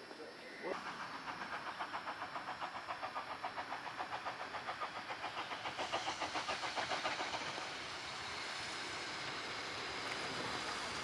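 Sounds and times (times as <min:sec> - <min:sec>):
steam locomotive exhaust beats: 0:00.7 - 0:11.0.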